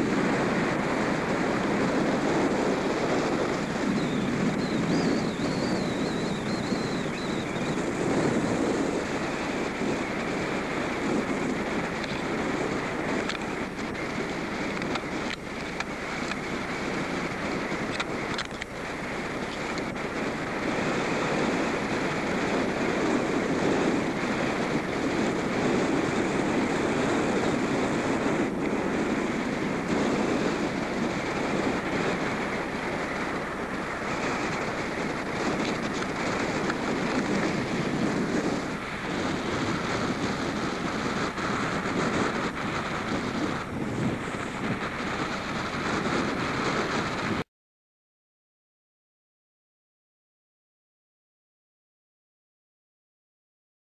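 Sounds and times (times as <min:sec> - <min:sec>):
wind across microphone: 0:00.0 - 0:47.4.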